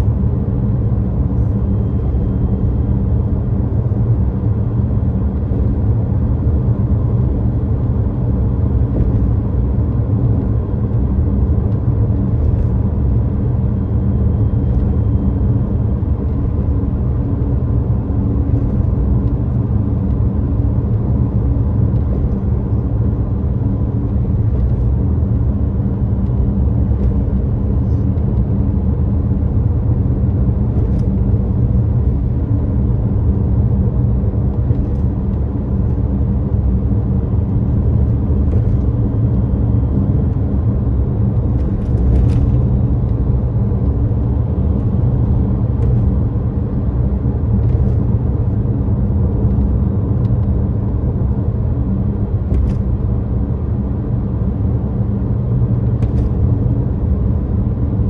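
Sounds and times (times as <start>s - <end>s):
car engine and tyre road noise: 0.0s - 58.0s.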